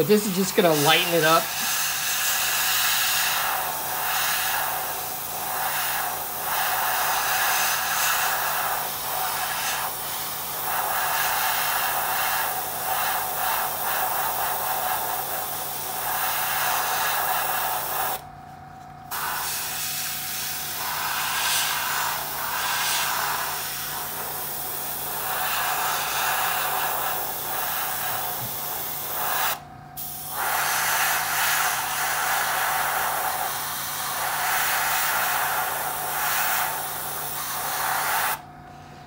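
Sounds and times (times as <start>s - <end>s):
airbrush spraying hiss: 0.0s - 18.2s, 19.1s - 38.4s.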